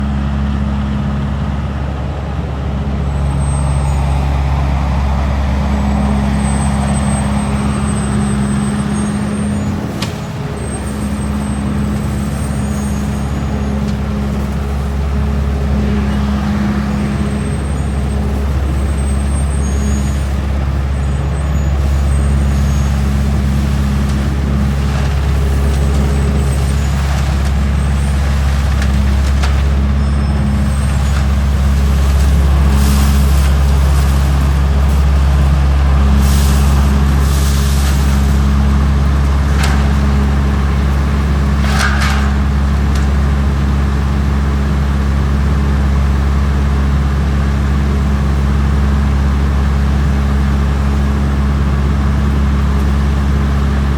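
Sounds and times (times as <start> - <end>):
truck engine humming: 0.0 - 53.9.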